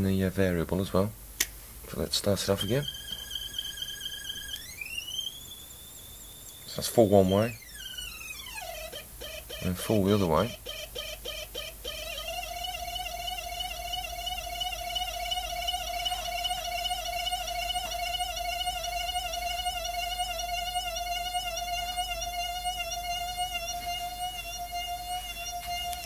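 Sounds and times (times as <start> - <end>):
high-pitched coil whine: 2.0 - 26.0.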